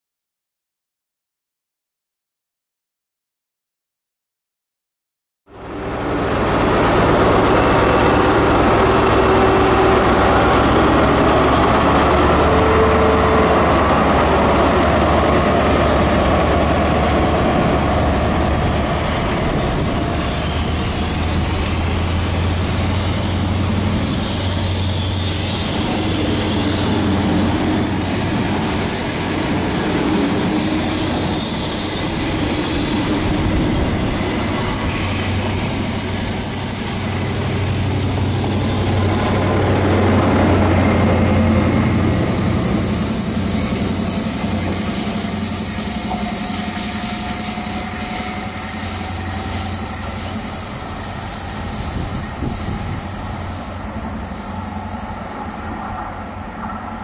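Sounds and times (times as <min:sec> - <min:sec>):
train wheels on rails: 0:05.5 - 0:57.0.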